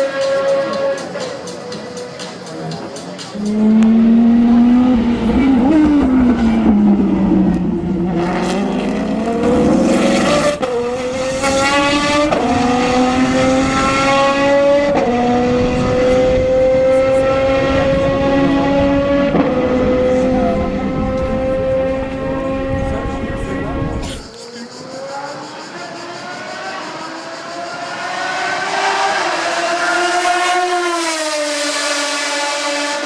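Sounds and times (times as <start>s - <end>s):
race car engine accelerating: 3.3s - 24.3s, 24.9s - 33.0s.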